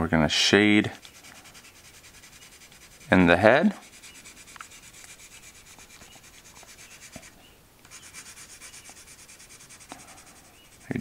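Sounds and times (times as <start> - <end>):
pencil shading on paper: 1.0 - 11.0.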